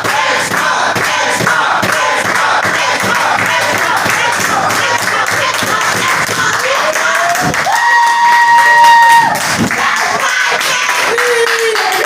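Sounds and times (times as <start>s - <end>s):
crowd cheering: 0.0s - 12.0s.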